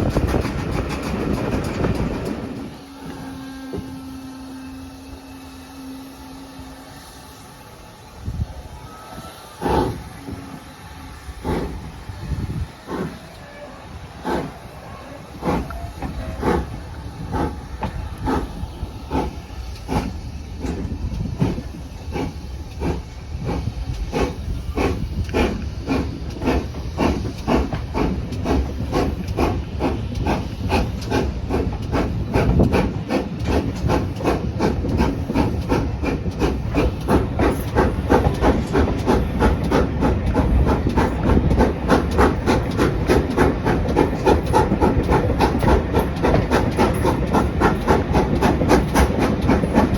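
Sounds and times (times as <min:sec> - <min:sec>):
steam hissing: 0:00.0 - 0:49.9
steam locomotive chuffing: 0:00.0 - 0:49.9.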